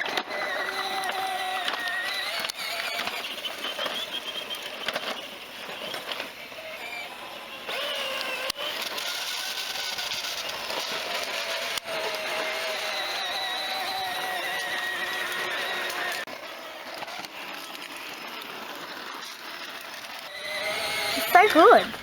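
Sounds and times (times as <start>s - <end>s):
small motorbike motor whining: 0.0s - 22.0s.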